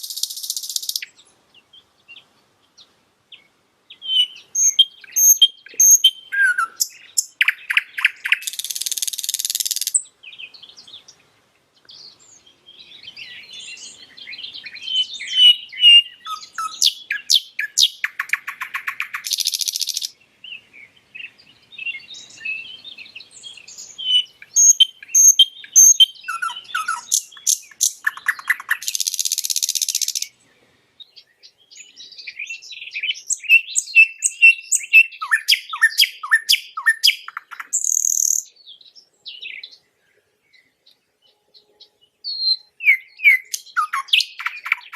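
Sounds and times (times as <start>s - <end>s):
nightingale singing: 0.0s - 44.9s.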